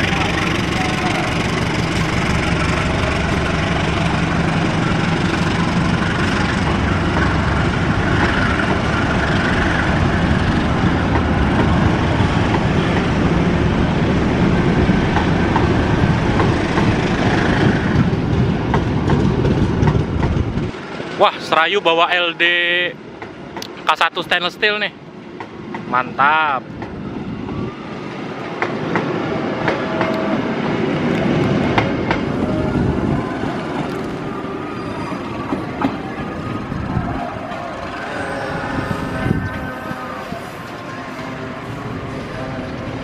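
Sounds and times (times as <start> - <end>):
train coaches rumbling past: 0.0 - 43.0.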